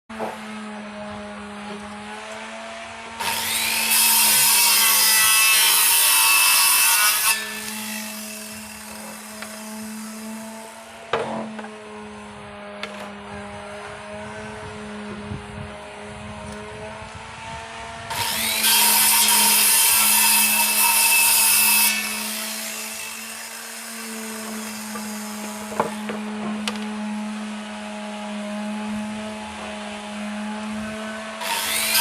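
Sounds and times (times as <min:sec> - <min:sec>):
electric saw cutting wood: 0:00.1 - 0:32.0.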